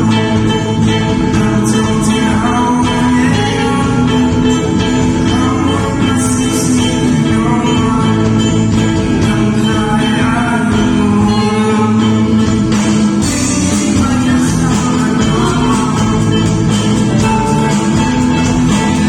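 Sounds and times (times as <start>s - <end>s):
gospel band playing: 0.0s - 19.0s
people singing: 0.0s - 19.0s.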